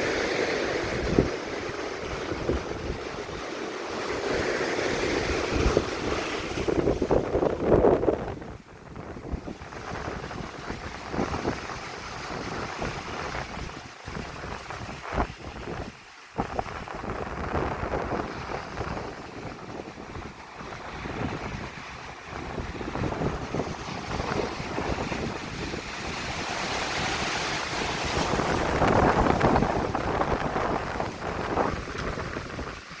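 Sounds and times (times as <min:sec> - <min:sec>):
waves breaking on beach: 0:00.0 - 0:33.0
wind buffeting microphone: 0:00.0 - 0:33.0.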